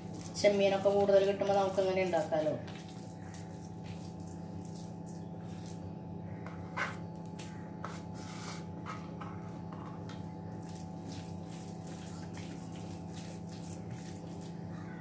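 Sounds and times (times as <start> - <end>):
hand kneading wet mixture: 0.0 - 15.0
steady hum: 0.0 - 15.0.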